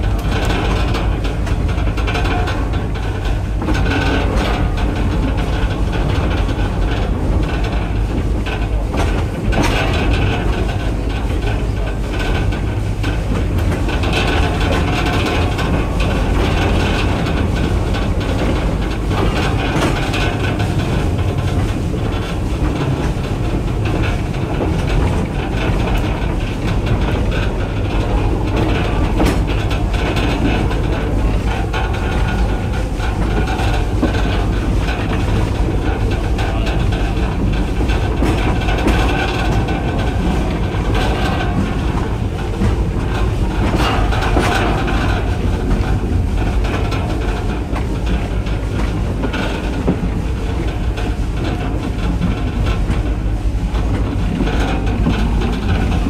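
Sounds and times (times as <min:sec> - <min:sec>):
railway carriage rumbling: 0:00.0 - 0:56.0
wheels clacking over rail joints: 0:00.0 - 0:56.0.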